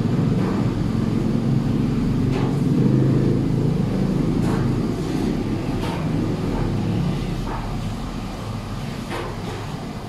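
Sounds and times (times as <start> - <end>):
low motor-like rumble: 0.0 - 10.0.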